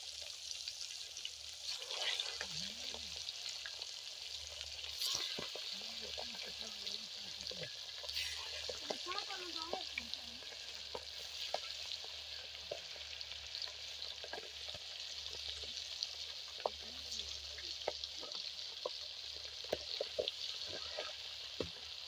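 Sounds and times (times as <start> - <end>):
fish deep-frying in hot oil: 0.0 - 22.0
oil popping and crackling: 0.0 - 22.0.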